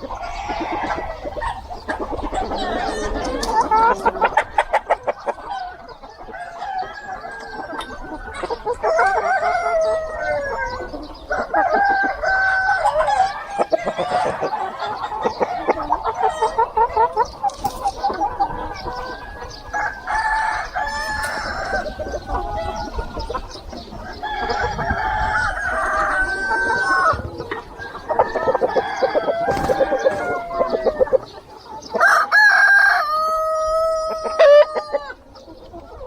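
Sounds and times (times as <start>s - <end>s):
chickens clucking: 0.0s - 36.0s
roosters crowing: 0.0s - 36.0s.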